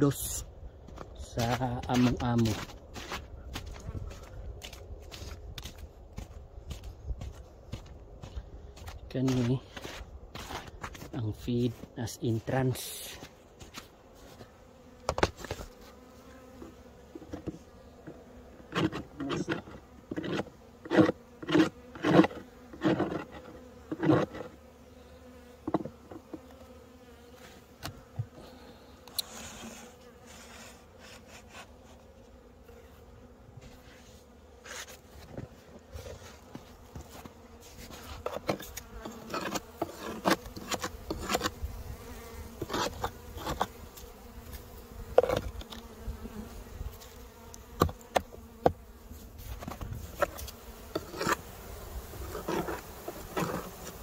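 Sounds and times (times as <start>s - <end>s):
honeybees buzzing: 0.0s - 54.0s
knocks and scrapes on hive: 0.0s - 54.0s.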